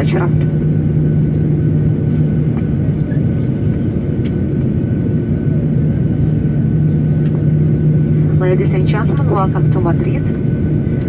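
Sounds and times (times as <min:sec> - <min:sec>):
aircraft cabin hum: 0:00.0 - 0:11.0.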